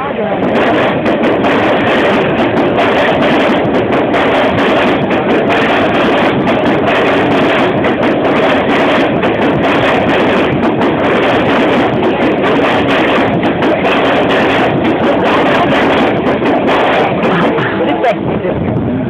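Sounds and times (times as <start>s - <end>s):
train rumble and rattle: 0.0s - 19.0s.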